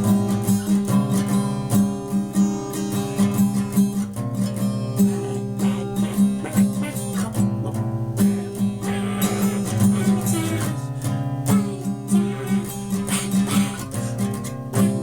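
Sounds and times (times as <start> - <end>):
guitar strumming chords: 0.0 - 15.0.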